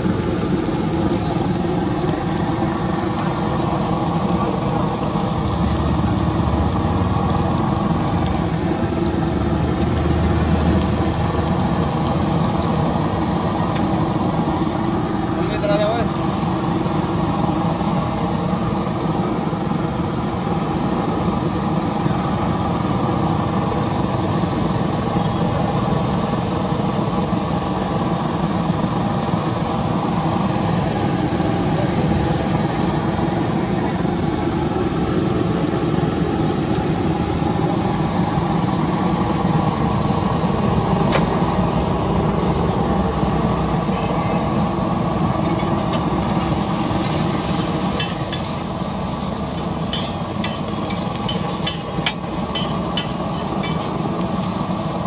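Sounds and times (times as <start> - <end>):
engine idling: 0.0 - 55.0
street noise: 0.0 - 55.0.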